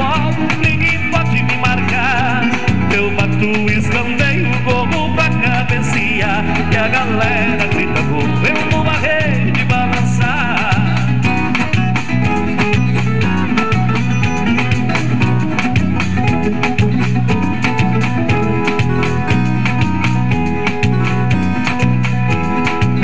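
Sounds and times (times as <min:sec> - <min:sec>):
electronic keyboard music: 0:00.0 - 0:23.0.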